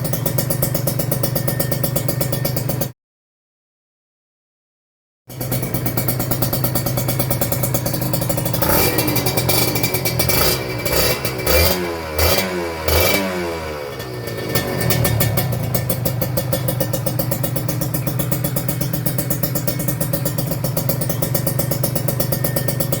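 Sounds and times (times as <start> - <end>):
motorcycle engine idling and revving: 0.0 - 3.0, 5.3 - 23.0.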